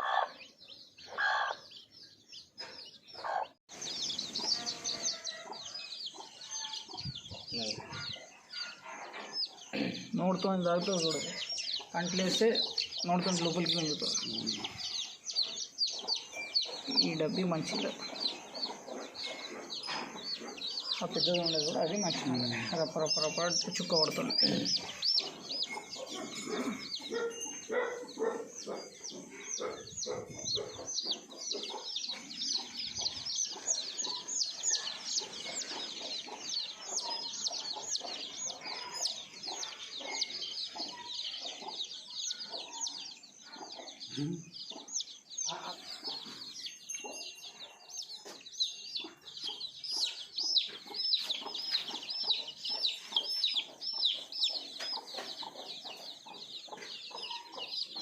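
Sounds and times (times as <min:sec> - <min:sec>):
chickens clucking: 0:00.0 - 0:58.0
chicks peeping: 0:00.0 - 0:58.0.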